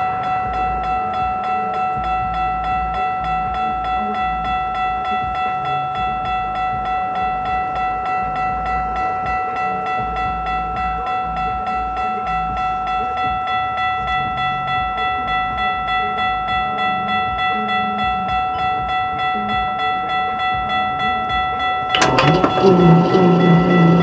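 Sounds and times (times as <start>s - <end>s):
level crossing bell ringing: 0.0s - 24.0s
train passing rumble: 0.0s - 24.0s.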